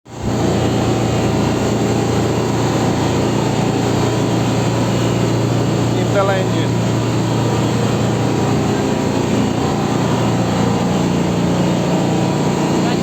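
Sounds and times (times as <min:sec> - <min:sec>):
ship engine running: 0:00.1 - 0:13.0.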